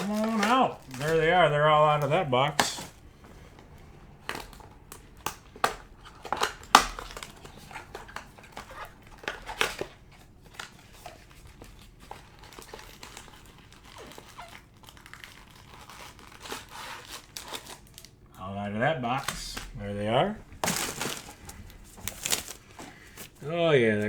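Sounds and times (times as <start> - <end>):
wrappers crinkling and rustling: 0.0 - 24.0.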